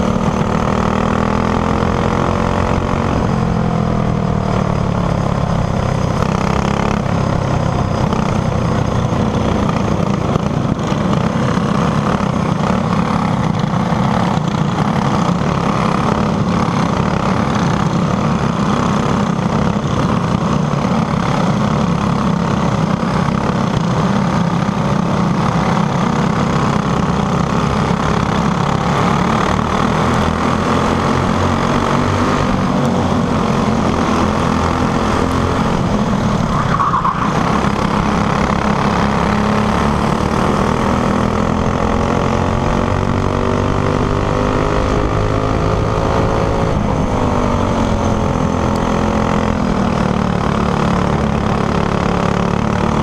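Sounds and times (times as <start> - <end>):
go-kart engine revving: 0.0 - 53.0
road noise: 0.0 - 53.0
rushing wind: 0.0 - 53.0.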